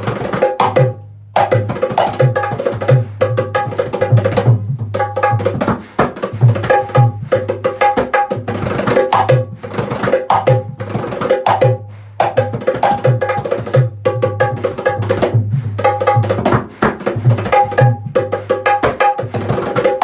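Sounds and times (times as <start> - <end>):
hand drum rhythm: 0.0 - 20.0.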